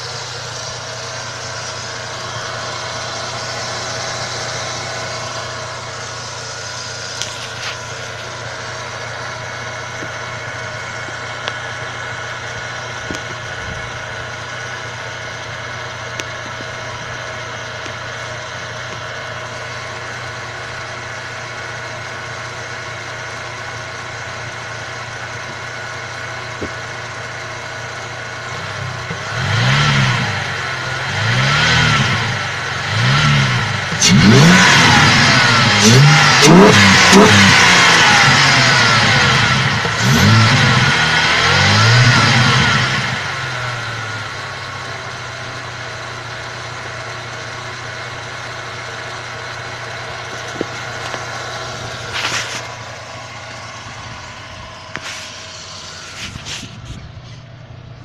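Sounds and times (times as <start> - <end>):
engine revving: 0.0 - 16.7, 28.0 - 58.0
car engine idling: 0.0 - 58.0.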